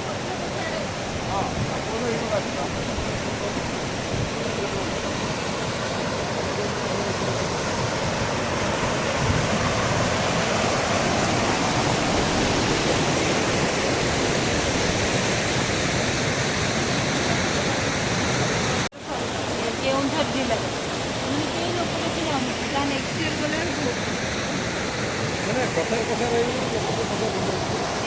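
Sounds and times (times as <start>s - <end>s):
waterfall splashing into pool: 0.0s - 28.0s.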